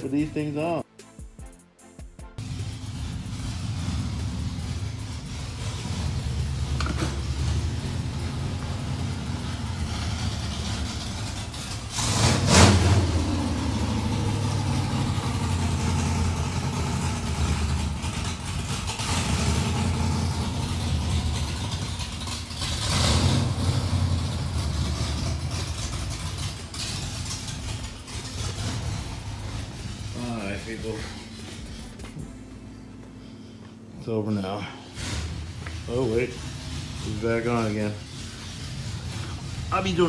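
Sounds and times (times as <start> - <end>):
car engine idling and revving: 2.4 - 33.4, 34.8 - 40.0.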